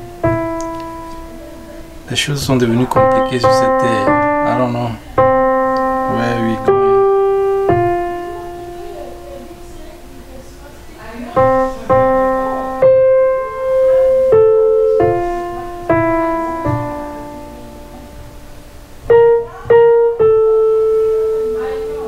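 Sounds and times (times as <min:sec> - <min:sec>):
electronic keyboard piano notes: 0:00.0 - 0:22.0.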